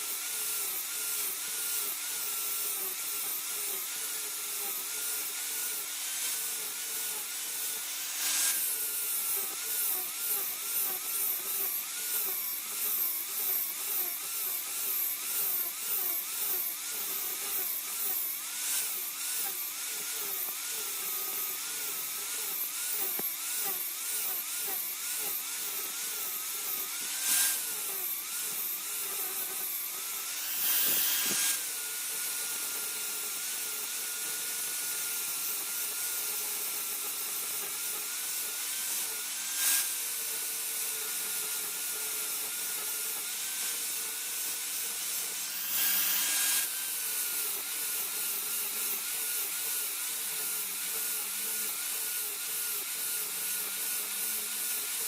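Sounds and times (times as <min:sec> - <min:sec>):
electric grinder whining: 0:00.0 - 0:55.0
harsh grinding bursts: 0:02.5 - 0:33.6, 0:38.6 - 0:40.2, 0:41.1 - 0:55.0.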